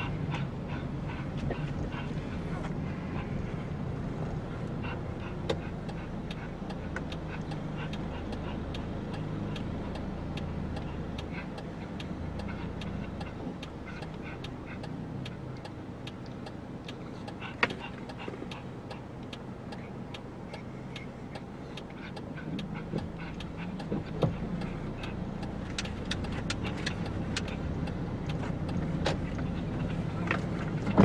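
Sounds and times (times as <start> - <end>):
car engine and road rumble: 0.0 - 31.0
small dog panting: 0.0 - 31.0
turn signal ticking: 0.0 - 31.0.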